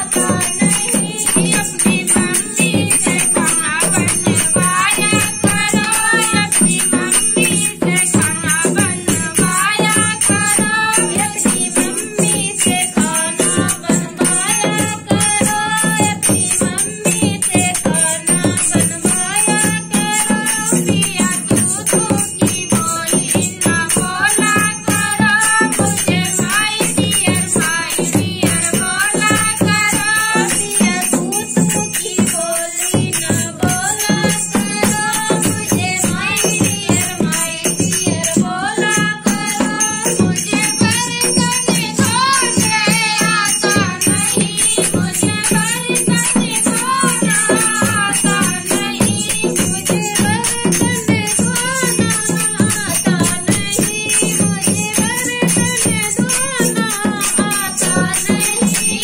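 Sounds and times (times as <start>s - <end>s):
barrel drum: 0.0s - 59.0s
hand cymbals jingling: 0.0s - 59.0s
women singing folk song: 0.0s - 59.0s.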